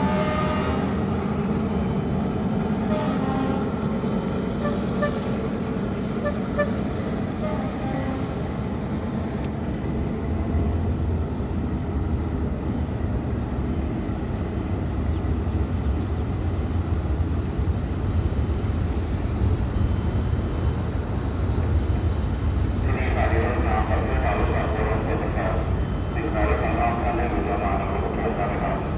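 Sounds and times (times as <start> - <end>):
train rumbling past: 0.0 - 28.9.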